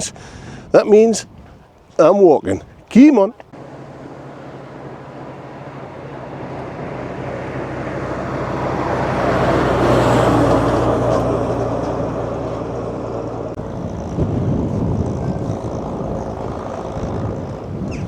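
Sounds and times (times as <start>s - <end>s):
vehicle engine passing by: 3.5s - 18.0s.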